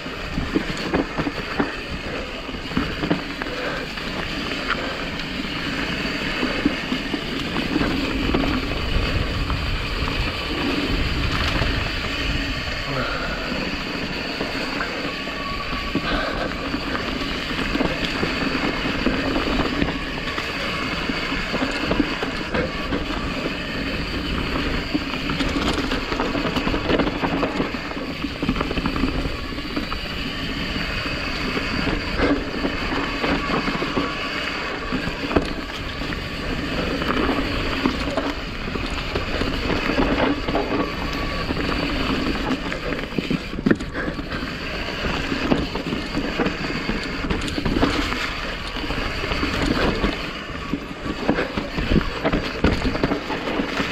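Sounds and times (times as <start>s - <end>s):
tyre and wind noise: 0.0s - 53.9s.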